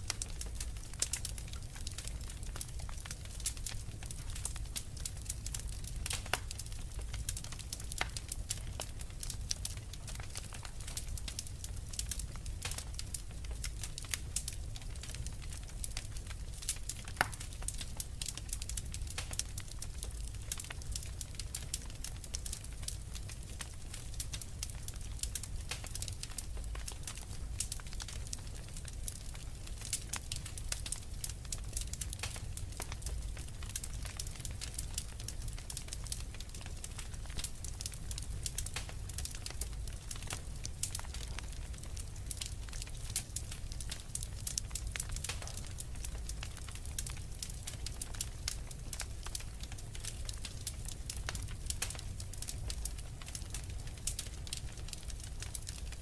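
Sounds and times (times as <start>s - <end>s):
low rumble of burning: 0.0s - 56.0s
wood fire crackling and popping: 0.0s - 56.0s.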